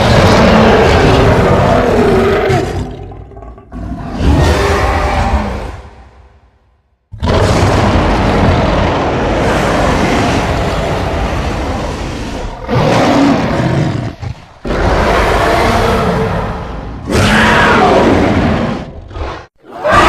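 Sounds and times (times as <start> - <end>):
monster roar: 0.0 - 6.1, 7.2 - 20.0.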